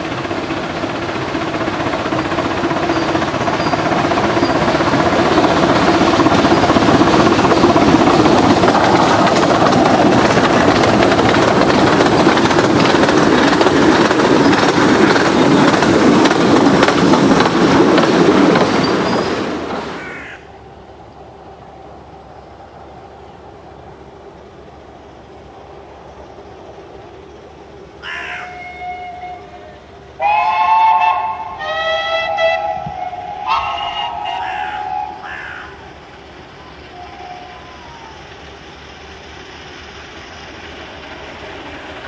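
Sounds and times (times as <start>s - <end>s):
steam locomotive exhaust: 0.0s - 22.2s, 23.3s - 42.0s
train wheels on rails: 0.0s - 42.0s.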